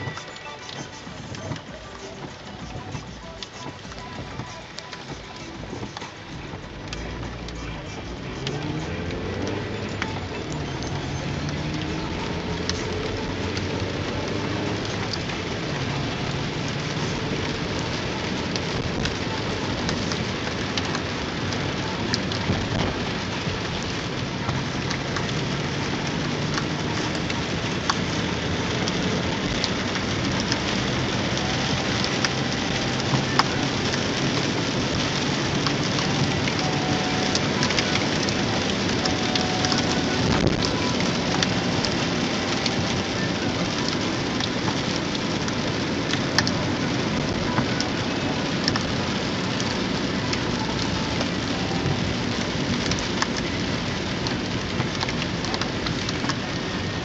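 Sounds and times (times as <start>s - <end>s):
heavy rain on car roof: 0.0s - 57.0s
raindrop ticks: 0.0s - 57.0s
tyres on wet road: 0.0s - 57.0s.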